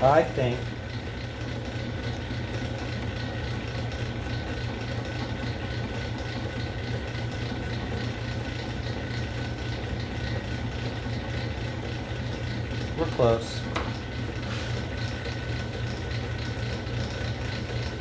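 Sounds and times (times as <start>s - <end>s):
lathe motor hum: 0.0s - 18.0s.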